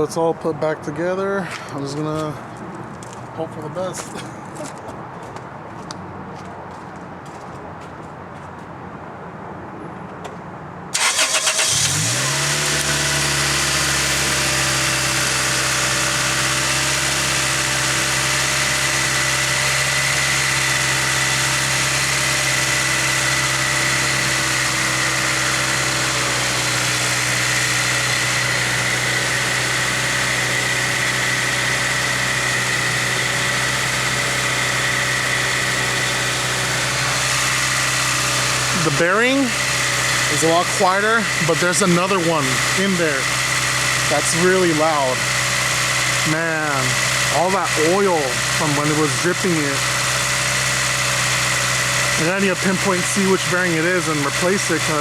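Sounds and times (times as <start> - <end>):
car engine starting and idling: 10.9 - 55.0.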